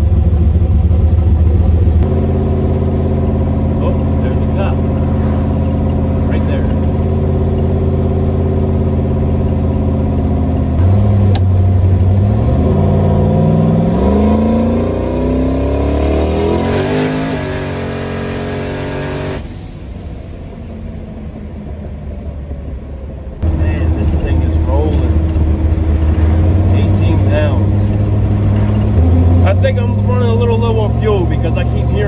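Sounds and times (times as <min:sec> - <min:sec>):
car engine revving: 0:00.0 - 0:21.4, 0:23.4 - 0:32.0.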